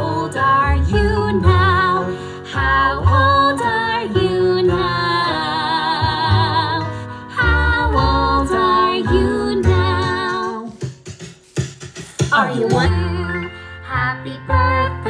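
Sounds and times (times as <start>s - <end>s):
song with singing over bass: 0.0s - 10.9s, 12.0s - 15.0s.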